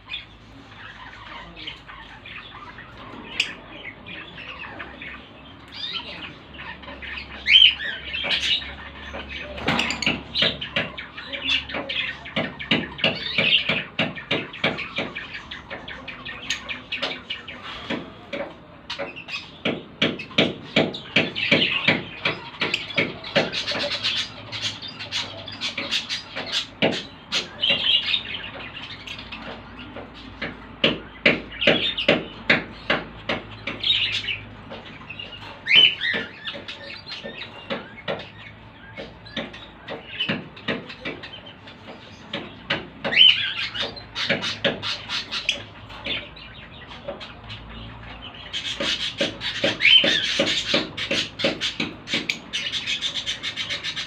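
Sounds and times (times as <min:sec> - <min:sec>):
lovebirds chirping: 0:00.0 - 0:54.0.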